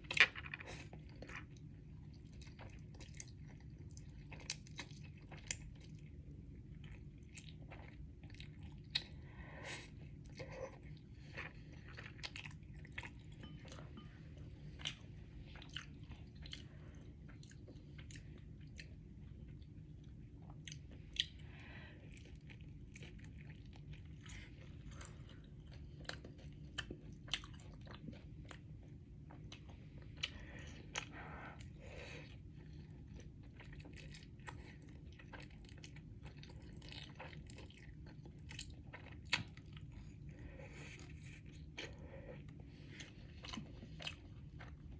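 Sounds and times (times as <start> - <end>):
person chewing noodles: 0.0 - 44.9
steady low hum: 0.0 - 44.9.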